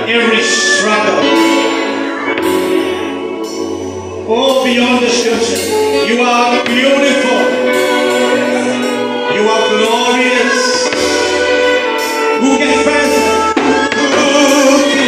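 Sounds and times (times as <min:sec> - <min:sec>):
gospel music with singing: 0:00.0 - 0:15.0.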